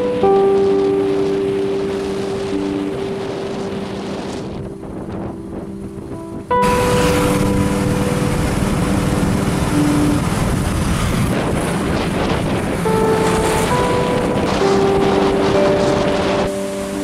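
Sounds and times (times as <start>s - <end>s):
background music with held notes: 0.0s - 17.0s
vehicle road noise: 0.0s - 17.0s
wind on microphone: 0.0s - 17.0s.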